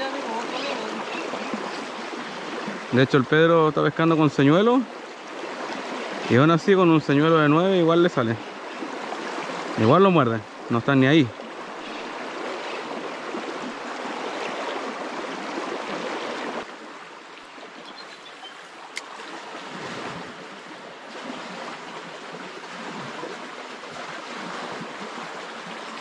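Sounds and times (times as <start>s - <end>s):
river water flowing over stones: 0.0s - 26.0s.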